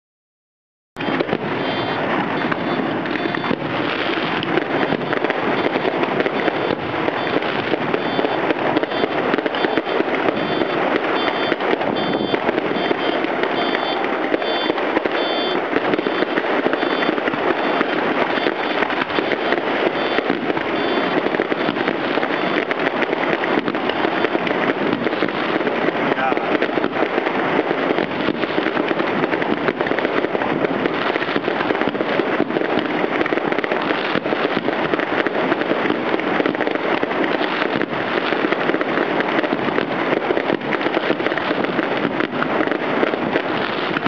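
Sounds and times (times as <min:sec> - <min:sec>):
fireworks bangs and crackling: 0:01.0 - 0:44.0.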